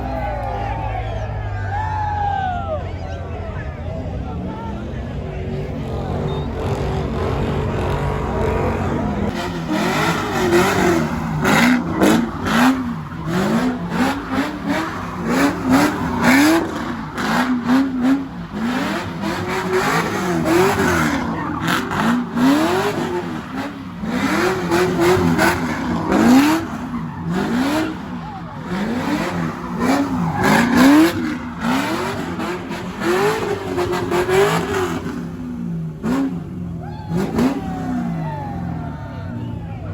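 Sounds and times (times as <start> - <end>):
car engine revving hard: 5.6 - 38.8.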